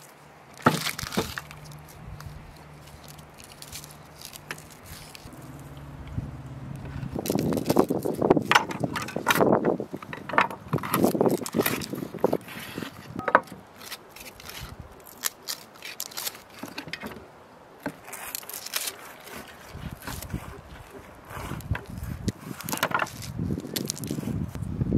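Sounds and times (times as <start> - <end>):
onion skin crackling: 0.0 - 9.4, 10.9 - 16.8, 17.8 - 24.6.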